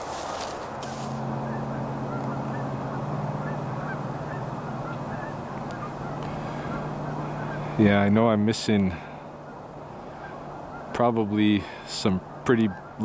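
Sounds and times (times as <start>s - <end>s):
geese honking: 0.0s - 13.0s
steady low hum: 0.4s - 13.0s.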